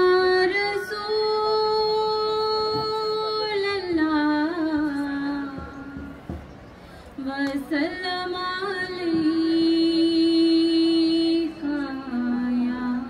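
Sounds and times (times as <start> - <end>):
woman singing: 0.0 - 6.1, 7.2 - 13.0.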